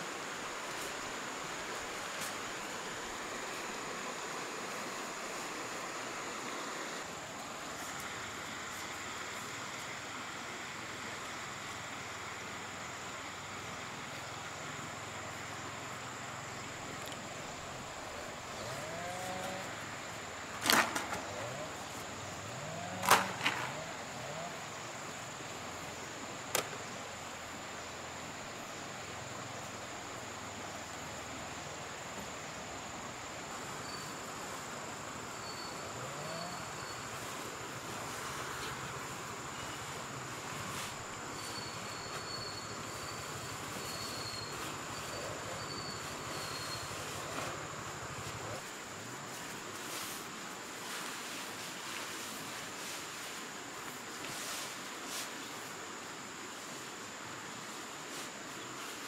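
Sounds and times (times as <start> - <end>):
background hiss: 0.0 - 59.0
high insect drone: 0.0 - 59.0.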